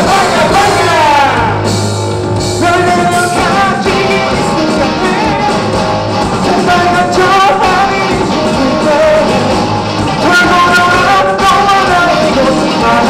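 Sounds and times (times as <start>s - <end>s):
amplified singing: 0.0s - 13.0s
bass guitar: 0.0s - 13.0s
drums: 0.0s - 13.0s
electric guitar: 0.0s - 13.0s.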